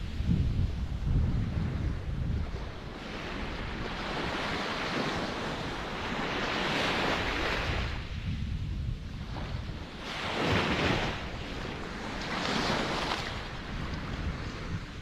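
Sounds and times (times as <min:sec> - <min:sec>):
low rumble of water: 0:00.0 - 0:06.4, 0:07.1 - 0:15.0.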